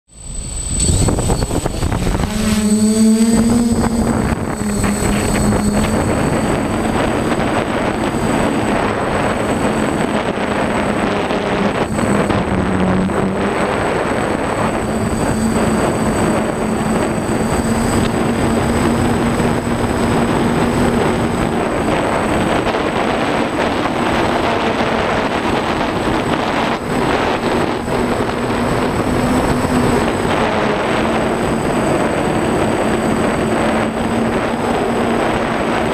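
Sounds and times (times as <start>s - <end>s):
drone motors and propellers humming: 0.1s - 35.9s
wind rushing on microphone: 0.2s - 35.9s.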